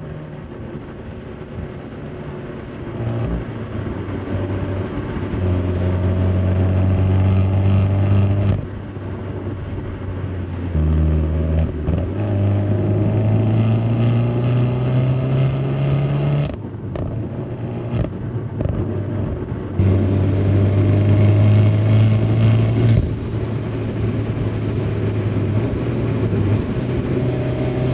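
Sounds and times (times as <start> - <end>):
car engine accelerating: 0.0 - 27.9
wind and road rush: 0.0 - 27.9.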